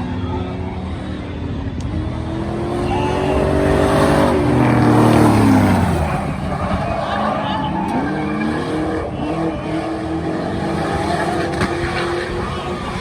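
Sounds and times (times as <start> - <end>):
racing car engines at full throttle: 0.0 - 13.0.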